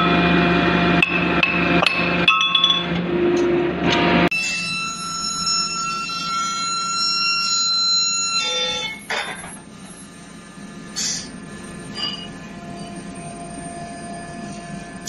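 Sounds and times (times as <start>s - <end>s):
induction heater high-pitched whine: 0.0s - 15.0s.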